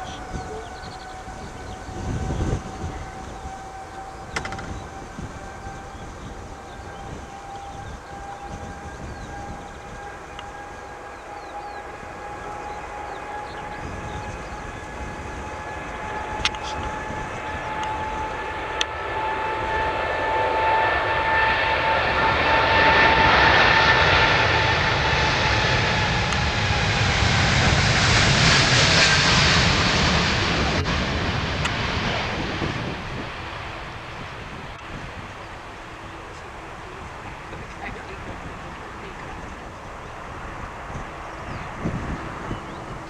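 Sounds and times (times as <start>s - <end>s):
jet airliner taking off: 0.0s - 43.0s.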